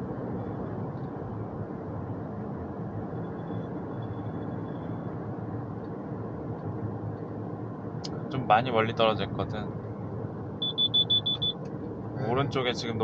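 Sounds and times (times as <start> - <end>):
car engine low hum: 0.0 - 13.0
road and tyre noise: 0.0 - 13.0.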